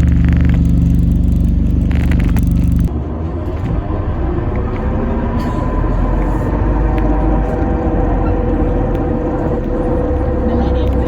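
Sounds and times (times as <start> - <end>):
bus rumbling: 0.0 - 11.0
steady whining tones: 0.0 - 11.0.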